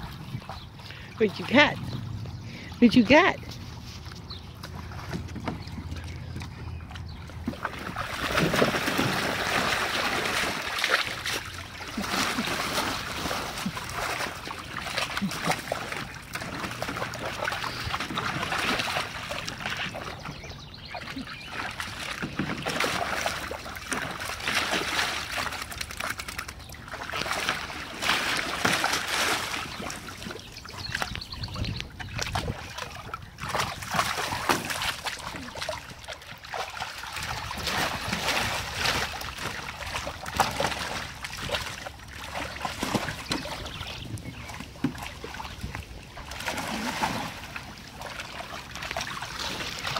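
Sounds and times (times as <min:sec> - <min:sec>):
water splashing and sloshing: 0:00.0 - 0:49.9.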